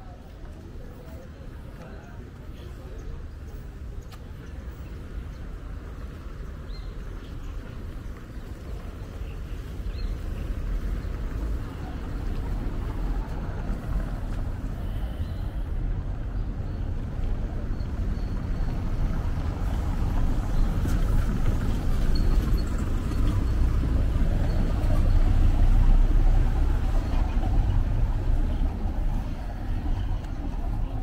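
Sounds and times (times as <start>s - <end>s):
street low rumble: 0.0s - 31.0s.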